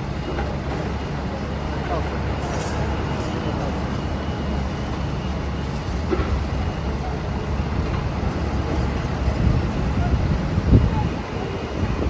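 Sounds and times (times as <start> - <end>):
diesel machinery rumbling: 0.0 - 12.0.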